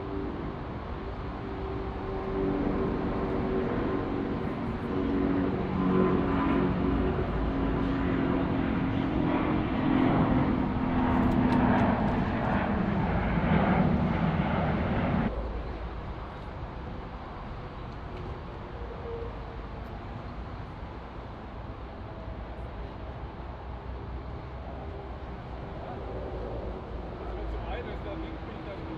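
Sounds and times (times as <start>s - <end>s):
jet engines passing: 0.0s - 28.9s.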